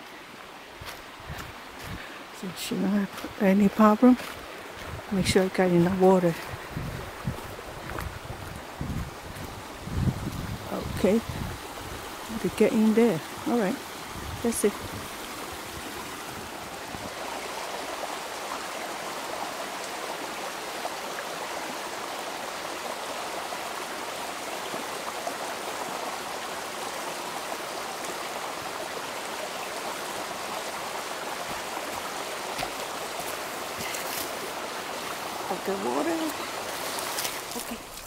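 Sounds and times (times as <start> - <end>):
creek running over rocks: 0.0 - 38.0.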